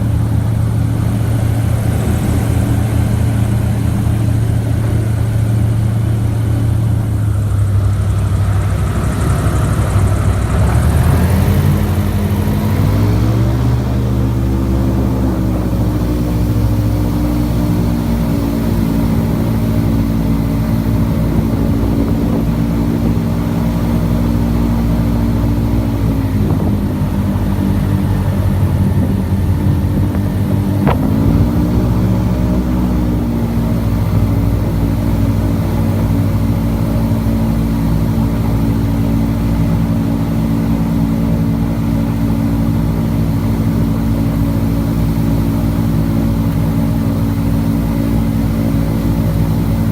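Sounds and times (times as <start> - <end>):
airboat engine and propeller: 0.0 - 49.9.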